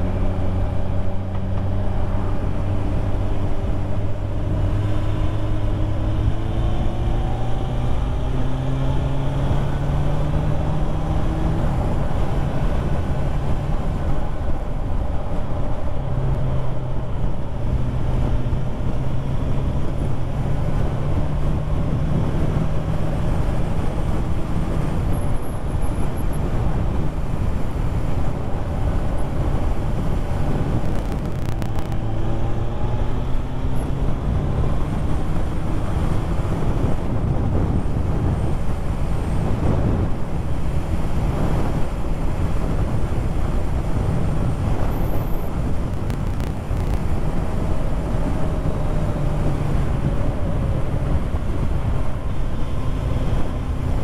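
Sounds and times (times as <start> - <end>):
wind noise: 0.0 - 54.0.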